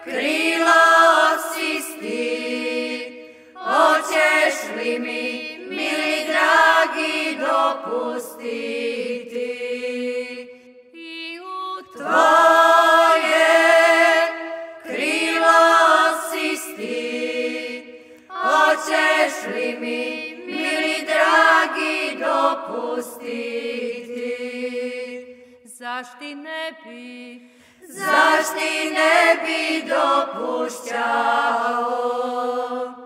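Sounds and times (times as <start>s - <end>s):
women singing folk song: 0.0s - 33.0s.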